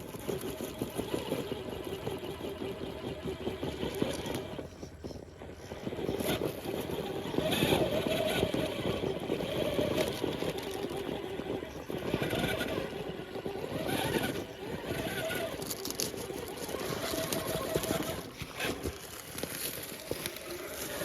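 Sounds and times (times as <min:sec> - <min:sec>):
toy car electric motor whining: 0:00.0 - 0:21.0.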